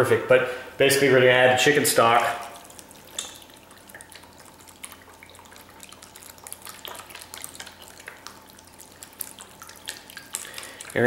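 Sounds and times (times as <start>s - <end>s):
liquid pouring and splashing: 1.7s - 11.0s.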